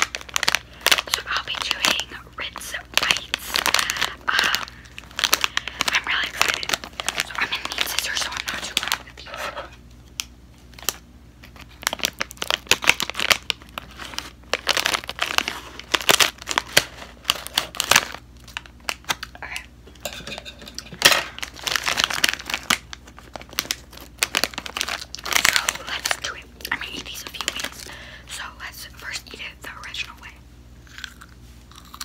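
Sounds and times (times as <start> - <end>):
plastic snack bag crinkling: 0.0 - 19.7, 20.7 - 32.0.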